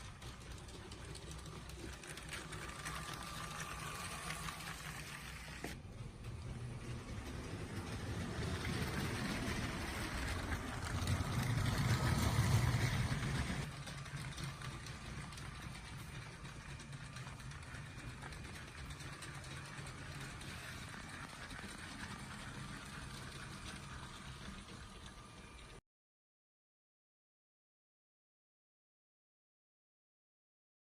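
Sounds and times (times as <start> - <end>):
toy train electric motor whirring: 0.0 - 25.8.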